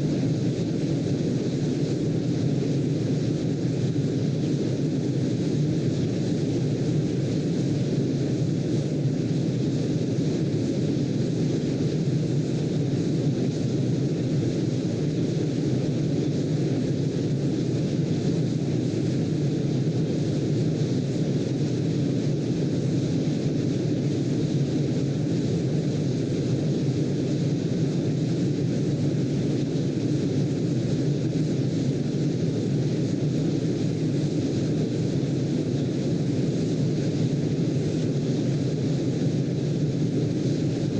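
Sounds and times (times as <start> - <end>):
brown noise: 0.0 - 40.9.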